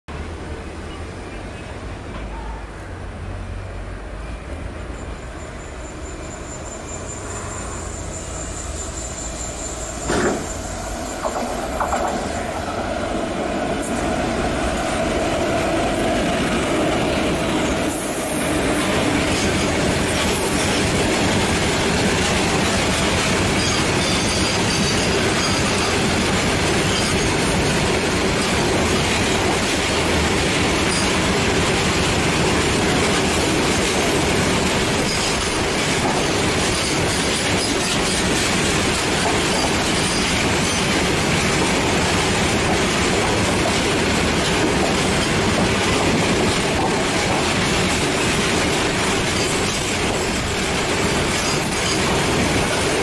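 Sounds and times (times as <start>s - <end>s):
electric locomotive passing: 0.2s - 53.0s.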